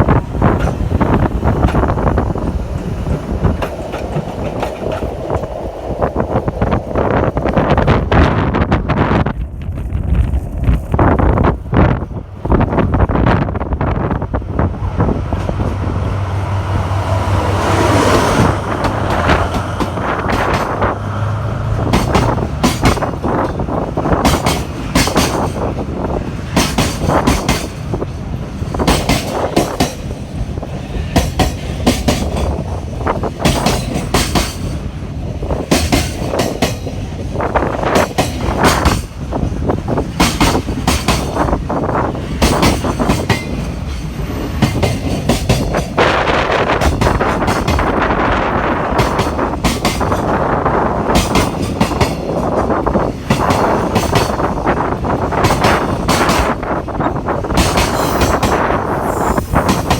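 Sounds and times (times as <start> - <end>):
locomotive low hum: 0.0 - 59.9
wagons clattering over rail joints: 0.4 - 7.4, 18.4 - 30.4, 31.0 - 59.9.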